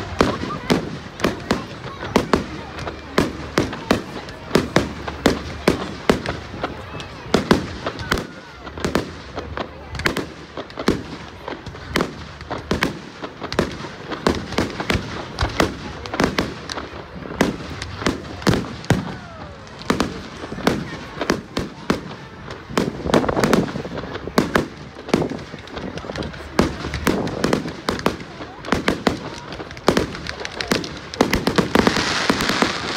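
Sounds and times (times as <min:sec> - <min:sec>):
fireworks bangs: 0:00.0 - 0:32.9.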